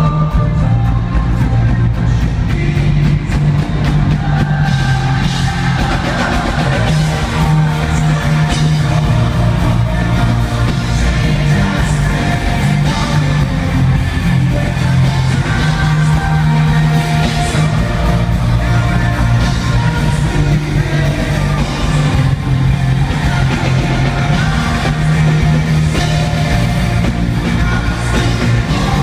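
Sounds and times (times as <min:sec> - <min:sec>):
bass line: 0:00.0 - 0:29.0
live rock band: 0:00.0 - 0:29.0
voices singing: 0:01.4 - 0:29.0.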